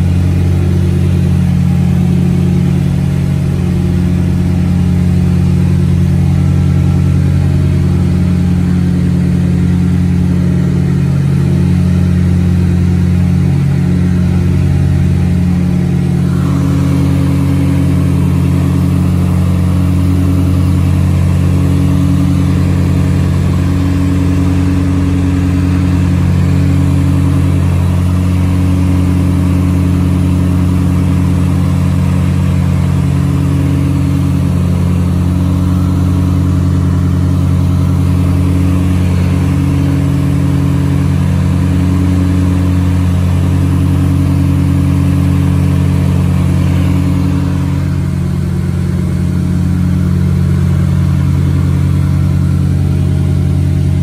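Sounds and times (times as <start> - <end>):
propeller engines droning: 0.0 - 54.0.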